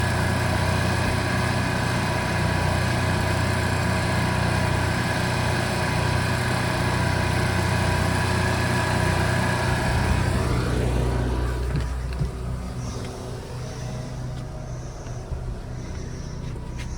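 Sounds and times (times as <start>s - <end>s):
generator engine humming: 0.0s - 16.9s.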